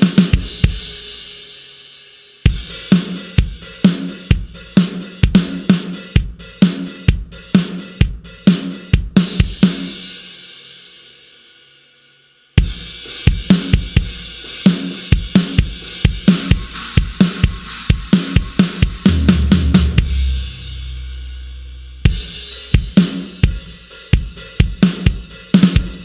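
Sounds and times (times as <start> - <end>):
drum kit groove: 0.0 - 11.2, 12.6 - 26.0.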